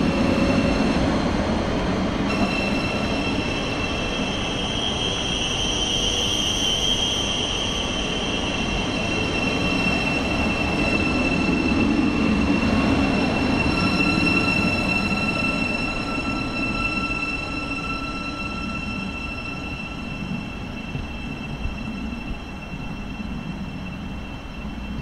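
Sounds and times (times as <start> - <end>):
high steady squealing tones: 0.0 - 25.0
train rumbling past: 0.0 - 25.0.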